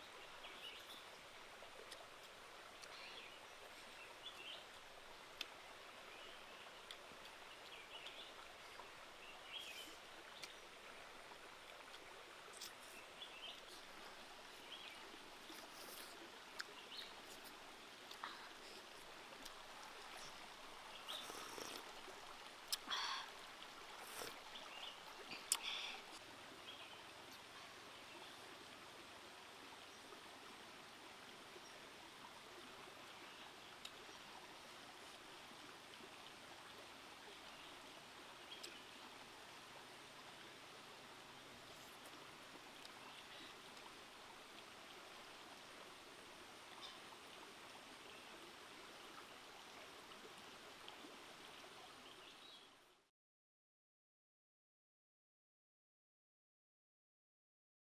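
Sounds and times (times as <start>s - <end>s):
shallow rocky stream rushing: 0.0s - 52.7s.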